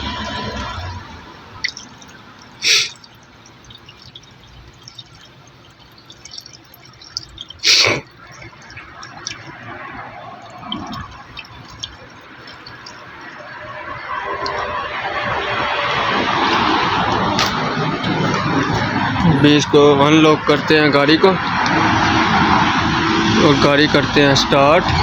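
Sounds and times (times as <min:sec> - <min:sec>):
loud water gushes: 0:00.0 - 0:25.0
water dripping and splashing: 0:00.0 - 0:25.0
water pouring into radiator: 0:00.0 - 0:25.0.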